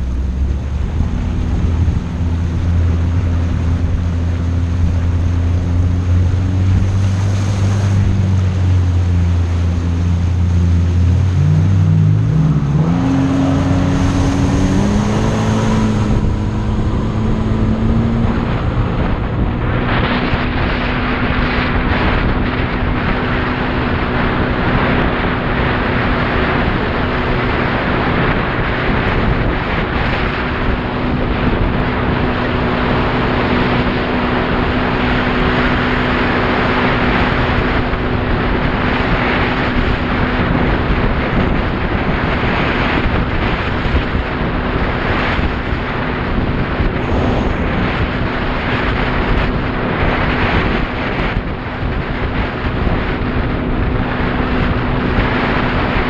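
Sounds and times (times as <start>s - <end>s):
jet ski engine running: 0.0s - 56.0s
rush of water and wind: 0.0s - 56.0s.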